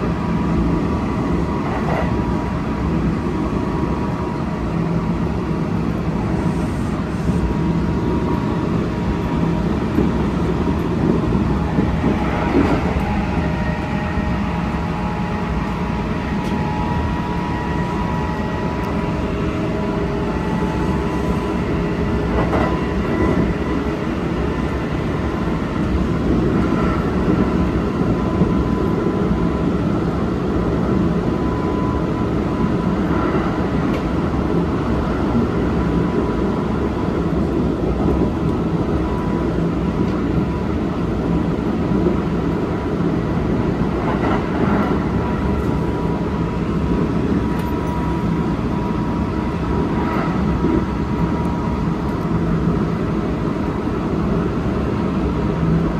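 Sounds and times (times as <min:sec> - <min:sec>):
electric train whine: 0:00.0 - 0:55.9
train wheels rumbling on rail: 0:00.0 - 0:55.9.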